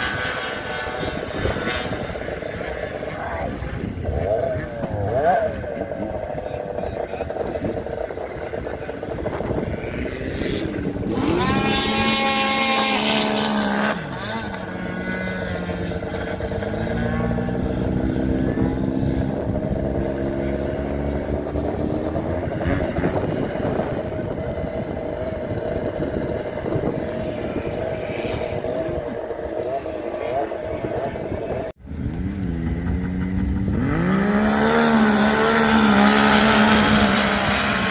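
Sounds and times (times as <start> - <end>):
racing engines passing by: 0.0 - 37.9.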